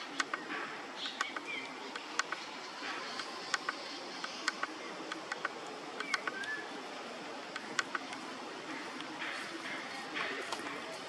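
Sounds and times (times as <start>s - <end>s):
sharp clicks: 0.0s - 6.6s, 7.4s - 10.8s
steady forest hiss: 0.0s - 11.0s.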